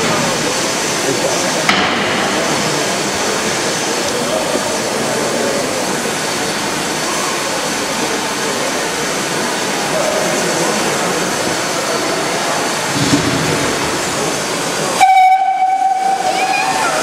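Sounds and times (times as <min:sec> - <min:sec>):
steam locomotive venting steam: 0:00.0 - 0:17.0.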